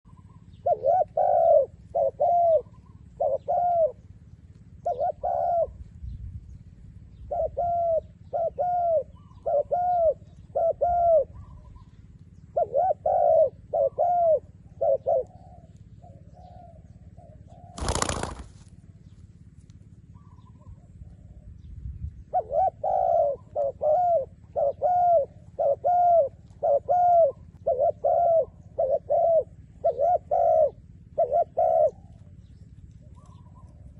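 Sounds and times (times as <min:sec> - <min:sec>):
dove cooing: 0:00.1 - 0:05.9, 0:07.1 - 0:18.6, 0:20.0 - 0:21.6, 0:22.2 - 0:33.9.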